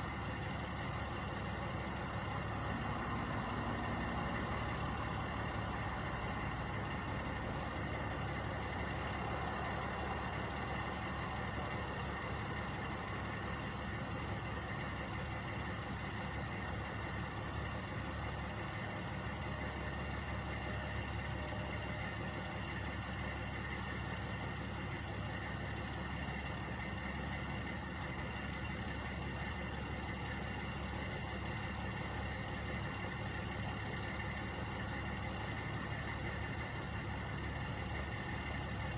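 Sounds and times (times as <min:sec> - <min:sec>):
truck engines idling: 0:00.0 - 0:38.9.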